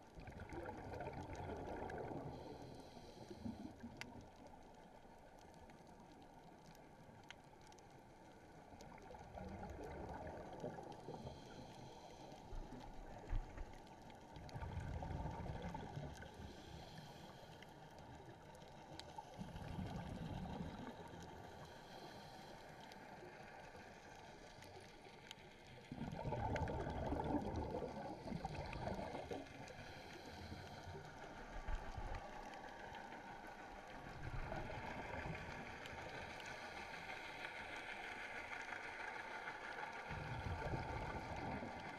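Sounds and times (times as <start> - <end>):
exhaled bubbles gurgling underwater: 0.0 - 41.9.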